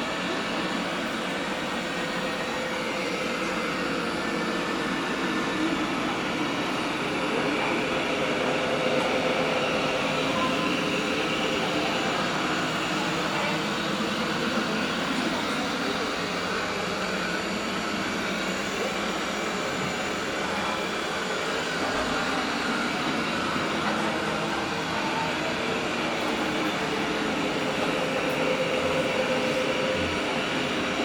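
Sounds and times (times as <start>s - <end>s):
robot vacuum cleaner running: 0.0s - 31.0s.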